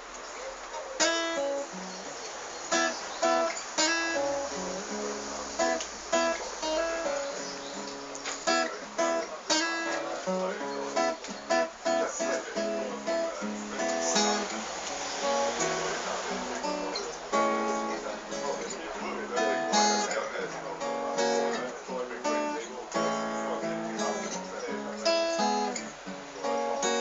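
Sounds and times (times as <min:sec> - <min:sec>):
solo acoustic guitar: 0:00.0 - 0:27.0.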